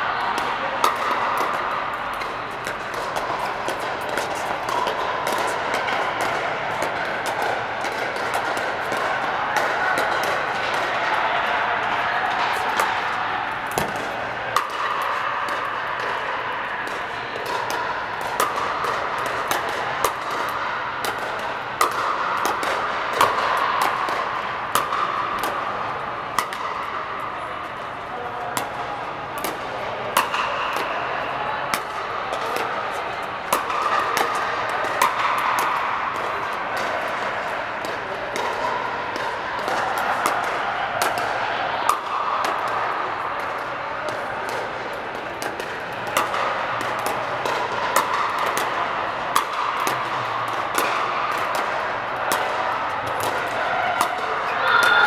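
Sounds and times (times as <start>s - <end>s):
steady indoor din: 0.0s - 55.0s
paddles hitting plastic ball: 0.2s - 26.9s, 28.5s - 28.8s, 29.4s - 31.0s, 31.6s - 55.0s.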